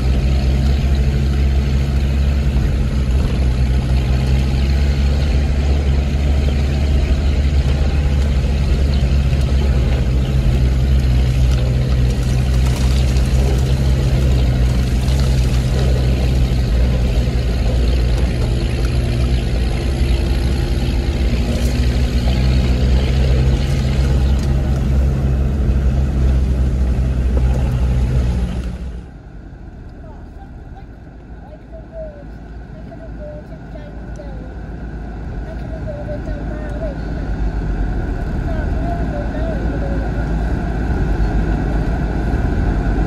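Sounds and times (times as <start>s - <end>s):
diesel engine running: 0.0s - 43.0s
rush of road noise: 0.0s - 43.0s.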